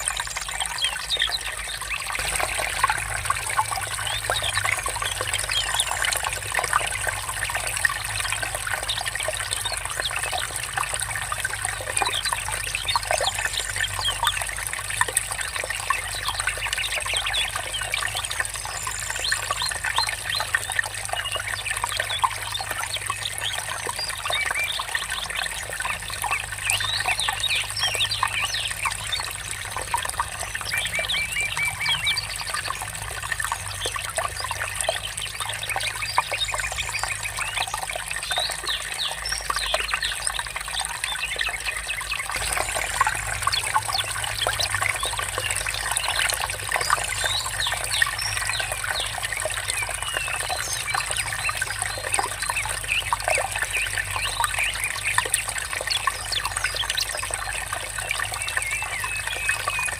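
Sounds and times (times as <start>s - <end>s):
birds chirping: 0.0s - 14.5s, 15.3s - 59.9s
water trickling and babbling: 0.0s - 59.9s.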